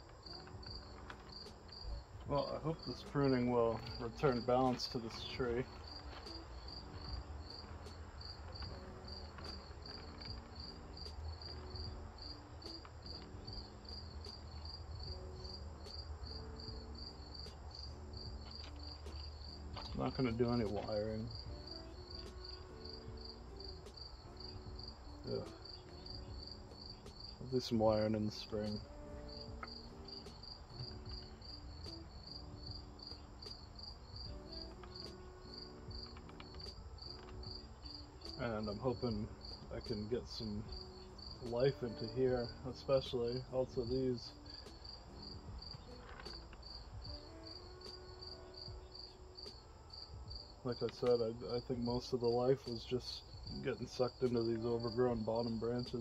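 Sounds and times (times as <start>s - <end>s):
high insect trill: 0.0s - 56.0s
insects chirping: 0.0s - 56.0s.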